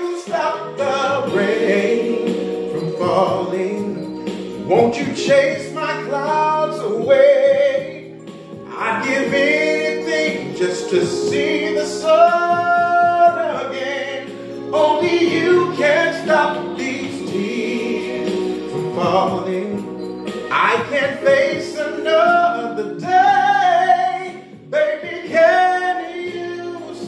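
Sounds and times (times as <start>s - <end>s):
man singing: 0.0s - 27.0s
sustained backing chords: 0.0s - 27.0s.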